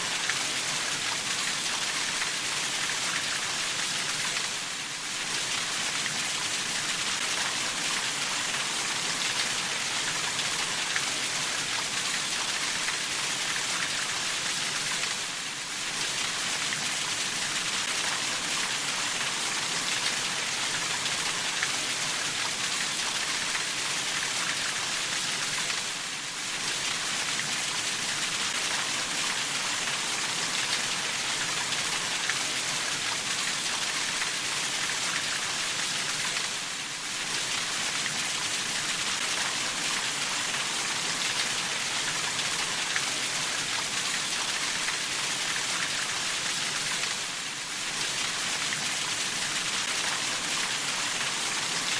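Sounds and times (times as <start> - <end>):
heavy rainfall: 0.0 - 51.9.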